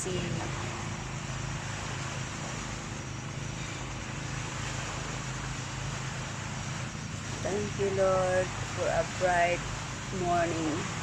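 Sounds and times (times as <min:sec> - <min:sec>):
low hum: 0:00.0 - 0:11.0
ocean waves washing on shore: 0:00.0 - 0:11.0.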